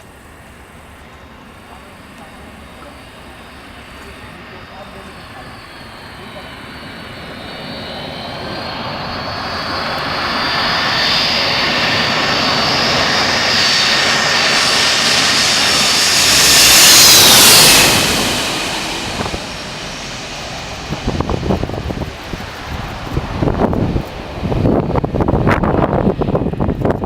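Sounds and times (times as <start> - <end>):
jet airliner engine whine: 0.0 - 27.0
wind buffeting microphone: 4.3 - 27.0.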